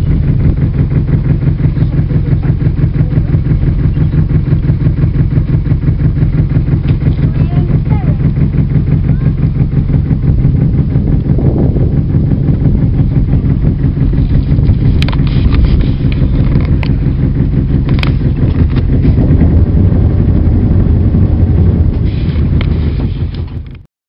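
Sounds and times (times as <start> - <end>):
boat engine throbbing: 0.0 - 23.9.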